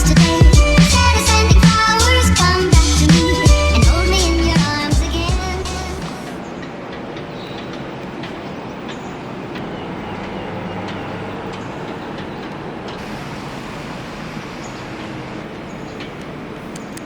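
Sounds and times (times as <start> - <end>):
moving train rumbling hiss: 0.0 - 17.0.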